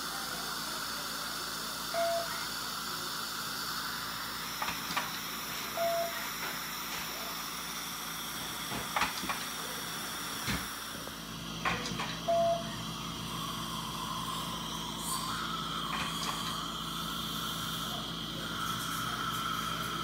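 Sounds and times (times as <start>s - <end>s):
dental equipment hiss and hum: 0.0s - 20.0s.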